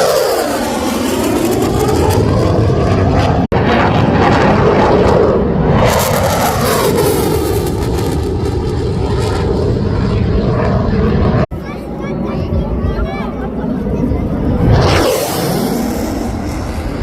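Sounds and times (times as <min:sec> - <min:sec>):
jet roaring past: 0:00.0 - 0:17.0.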